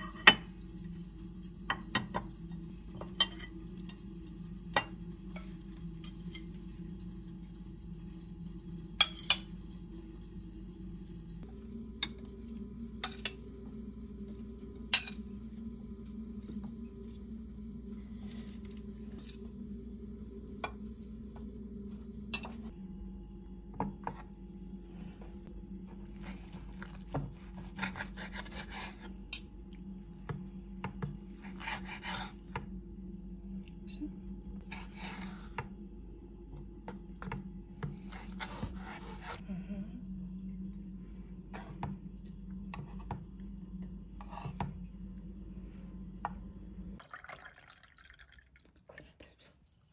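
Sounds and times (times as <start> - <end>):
steady low hum: 0.0 - 47.2.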